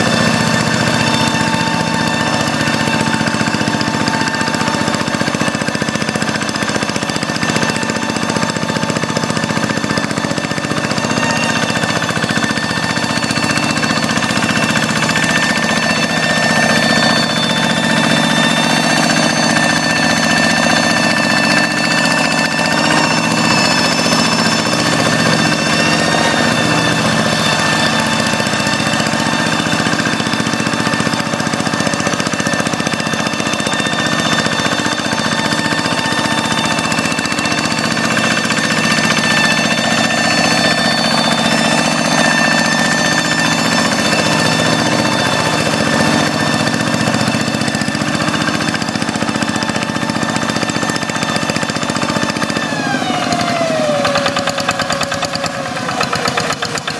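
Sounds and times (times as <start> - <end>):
hand tractor diesel engine running: 0.0 - 56.9.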